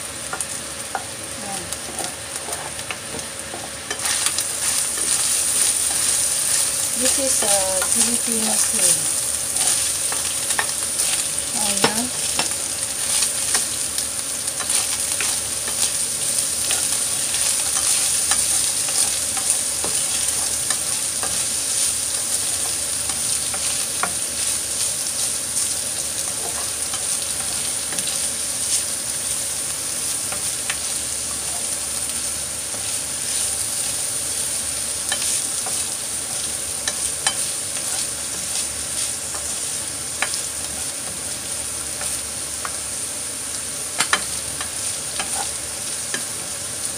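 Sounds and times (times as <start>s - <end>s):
meat and onion sizzling in oil: 0.0s - 46.9s.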